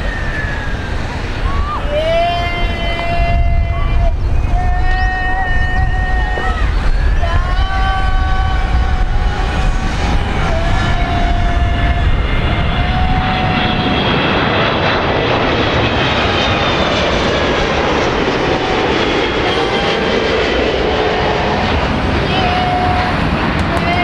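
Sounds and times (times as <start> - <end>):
high whining engine tones: 0.0 - 24.0
jet airliner roar overhead: 0.0 - 24.0.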